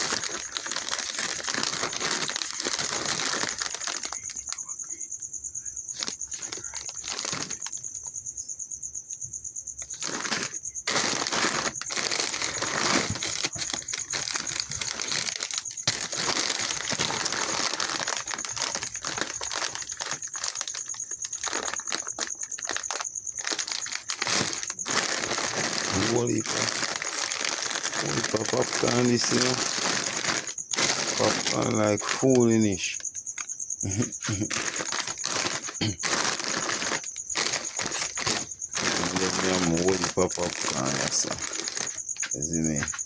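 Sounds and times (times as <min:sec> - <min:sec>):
plastic bags crinkling: 0:00.0 - 0:04.6, 0:05.9 - 0:08.0, 0:09.8 - 0:43.0.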